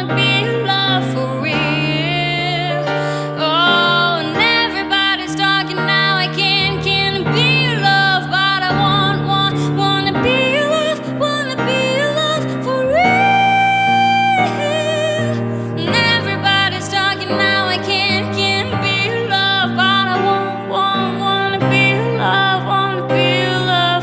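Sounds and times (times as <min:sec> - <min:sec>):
woman singing pop song: 0:00.0 - 0:24.0.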